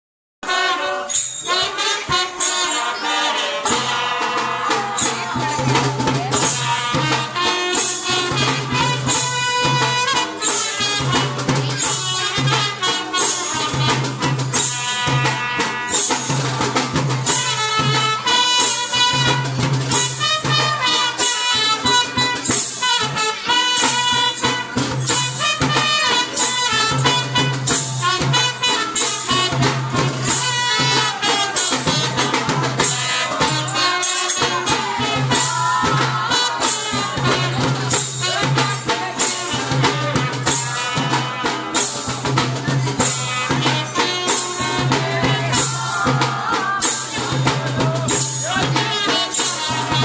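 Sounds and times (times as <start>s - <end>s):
jingling hand percussion: 0.4s - 50.0s
drum beat: 3.6s - 50.0s.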